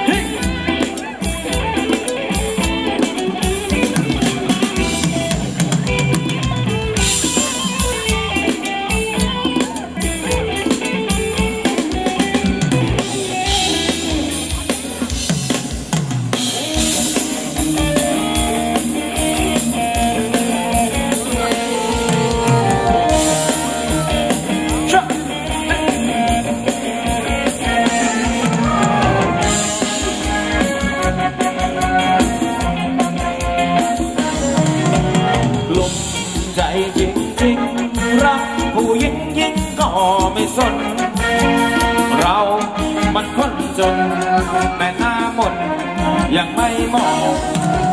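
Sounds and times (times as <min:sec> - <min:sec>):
drum kit beat: 0:00.0 - 0:47.9
live band dance music: 0:00.0 - 0:47.9.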